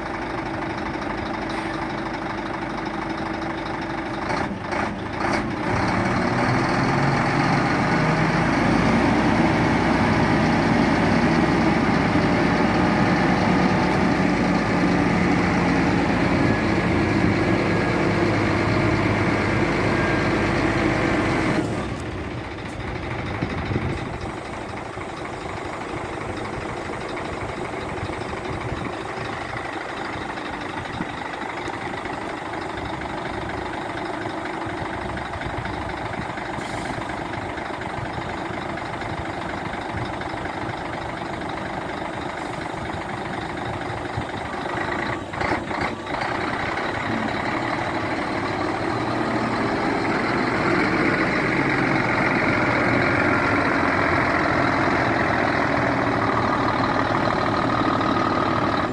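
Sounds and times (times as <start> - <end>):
diesel truck engine idling: 0.0 - 58.9.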